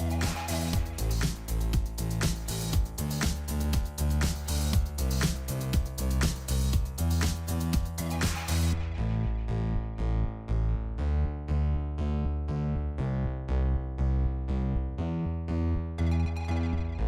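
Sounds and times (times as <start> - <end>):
electronic keyboard chords: 0.0 - 8.7, 10.2 - 17.0
steady bass line: 0.0 - 17.0.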